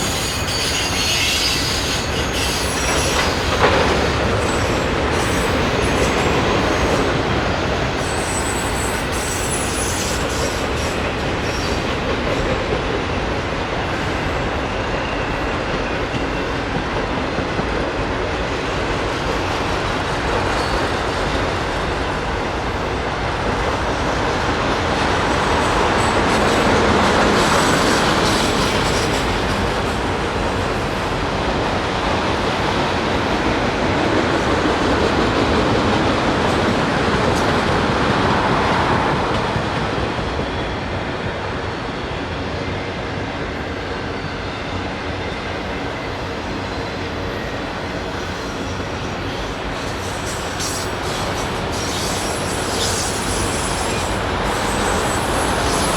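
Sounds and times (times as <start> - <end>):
freight train wheels rumbling: 0.0 - 55.9.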